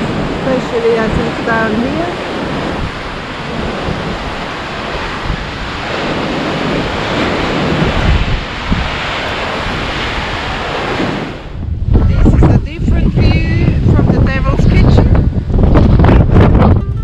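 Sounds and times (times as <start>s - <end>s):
ocean surf breaking: 0.0s - 16.9s
wind buffeting microphone: 0.0s - 17.0s.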